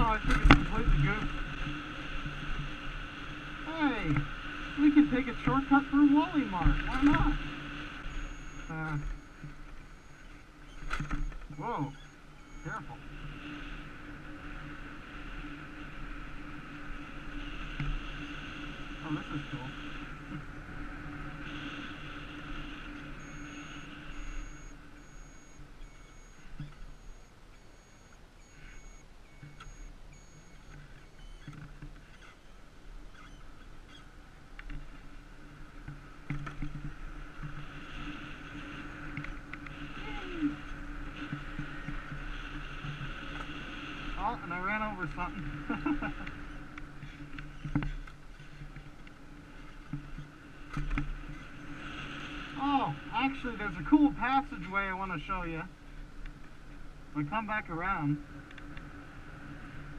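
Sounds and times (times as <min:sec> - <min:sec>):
electric bike motor whine: 0:00.0 - 0:52.6
road and wind rumble: 0:00.0 - 0:59.9.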